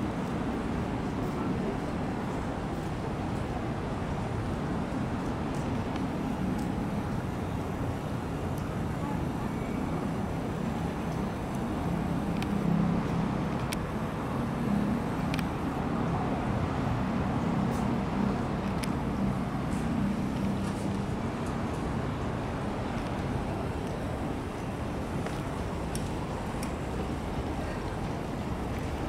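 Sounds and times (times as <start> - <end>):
engine and traffic rumble: 0.0 - 29.0.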